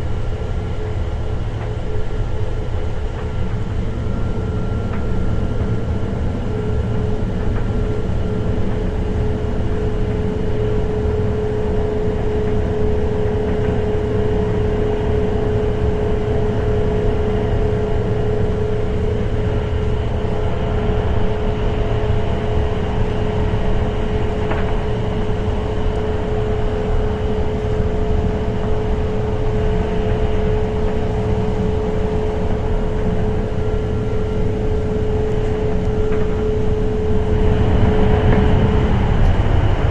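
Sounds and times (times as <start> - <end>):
constant train whine: 0.0 - 39.9
train rumbling at speed: 0.0 - 39.9.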